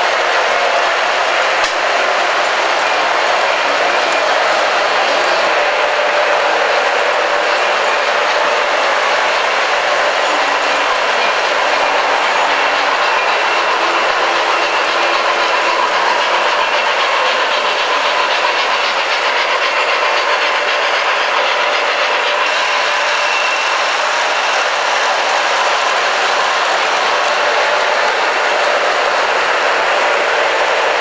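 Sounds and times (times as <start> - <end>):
model trains whirring and clattering: 0.0 - 31.0.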